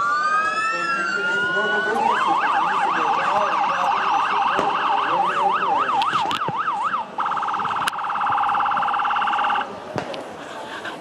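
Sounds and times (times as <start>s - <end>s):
emergency vehicle siren wailing: 0.0s - 9.8s.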